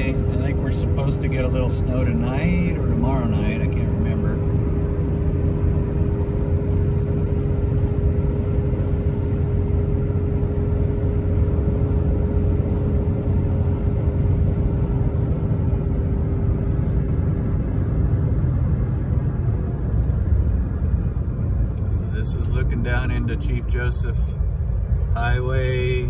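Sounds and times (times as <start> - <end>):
engine and tyre rumble: 0.0 - 26.0
steady hum: 0.0 - 26.0.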